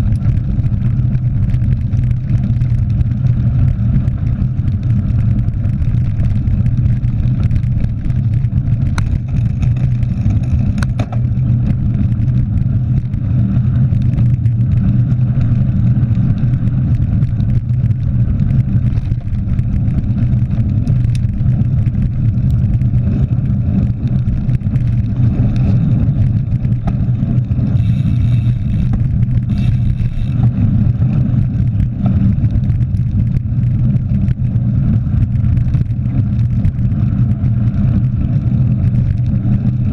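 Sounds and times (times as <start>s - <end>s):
bike rolling over gravel: 0.0s - 39.9s
gravel and bike rattles: 0.0s - 39.9s
wind on microphone: 0.0s - 39.9s.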